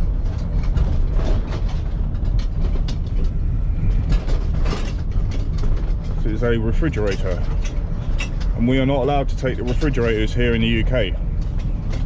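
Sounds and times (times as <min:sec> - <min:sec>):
scrap metal rattling and clanking: 0:00.0 - 0:12.0
vehicle rumble from inside cab: 0:00.0 - 0:12.0.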